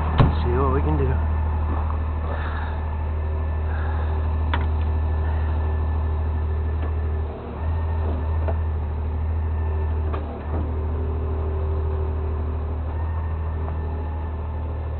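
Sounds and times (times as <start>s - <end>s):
truck engine droning: 0.0s - 14.9s.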